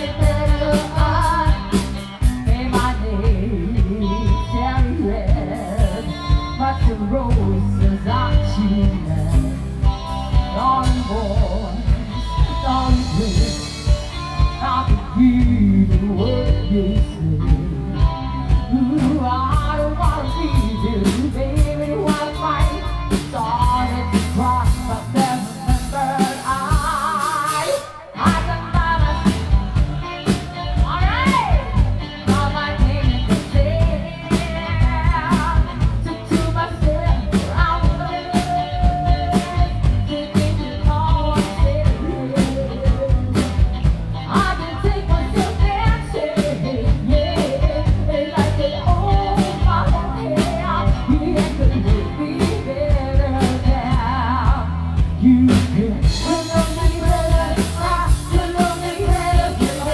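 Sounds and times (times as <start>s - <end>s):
live rock band playing: 0.0s - 59.9s
person singing: 0.0s - 59.9s.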